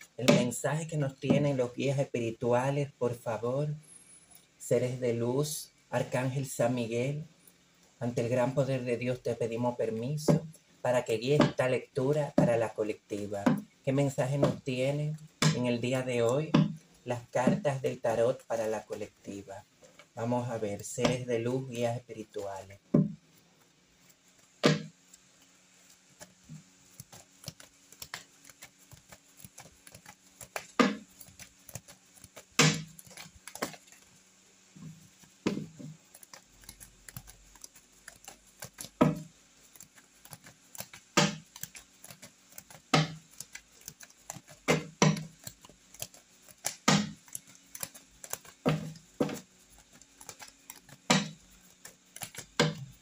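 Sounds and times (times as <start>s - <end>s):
cards being shuffled: 9.4s - 53.0s.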